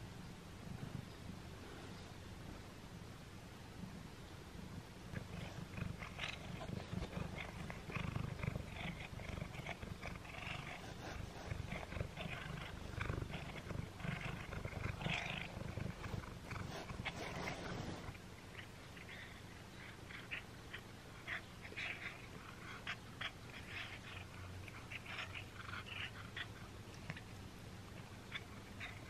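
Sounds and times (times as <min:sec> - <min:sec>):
cat purring rumble: 0:04.6 - 0:29.0.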